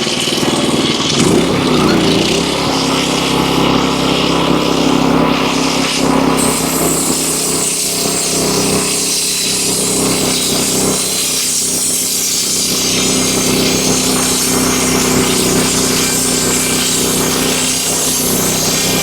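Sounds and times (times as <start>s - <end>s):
band sawmill engine hum: 0.0s - 19.0s
saw blade hissing through wood: 0.7s - 4.2s, 6.2s - 19.0s.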